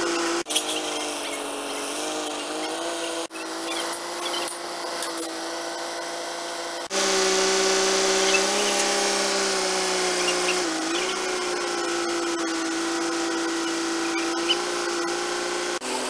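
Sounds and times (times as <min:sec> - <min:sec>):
crane mechanical whine: 0:00.0 - 0:16.0.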